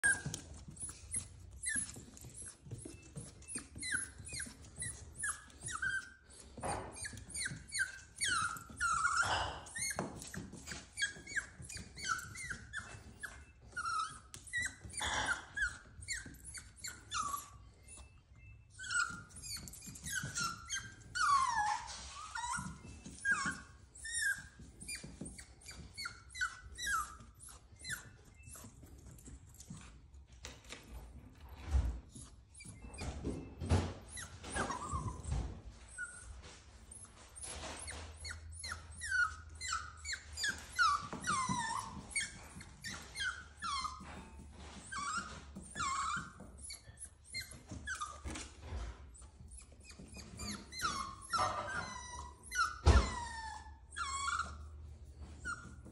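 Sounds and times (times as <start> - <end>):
puppy whining and crying: 0.0 - 55.9.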